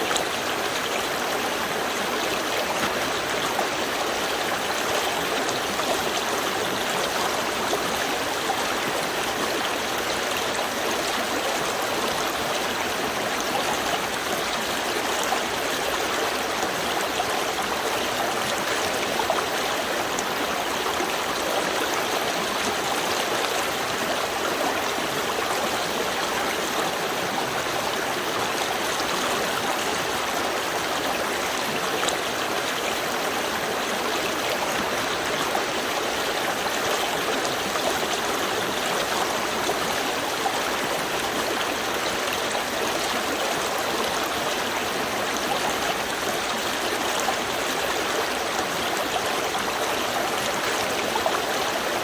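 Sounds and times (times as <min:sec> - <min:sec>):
stream flowing over stones: 0:00.0 - 0:52.0.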